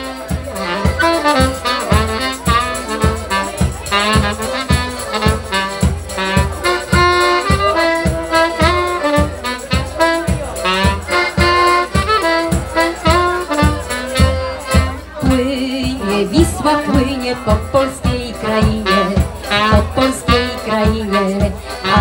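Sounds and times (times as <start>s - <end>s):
saxophone and accordion melody: 0.0s - 22.0s
steady drum beat: 0.0s - 22.0s.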